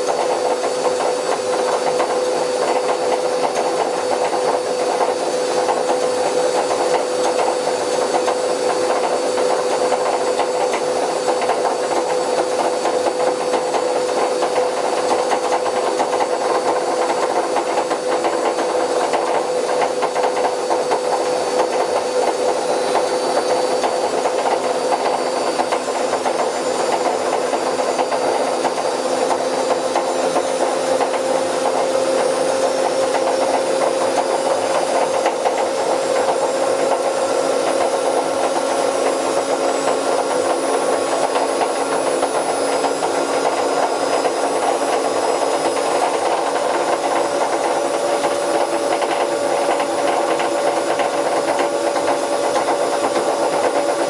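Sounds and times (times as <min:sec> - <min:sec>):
washing machine drum rushing: 0:00.0 - 0:54.0
washing machine whine: 0:00.0 - 0:54.0.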